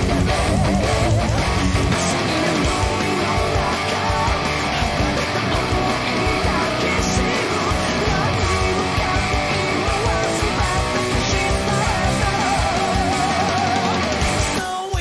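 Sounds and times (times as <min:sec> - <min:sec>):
electric guitar playing rock: 0:00.0 - 0:15.0
full band backing track: 0:00.0 - 0:15.0.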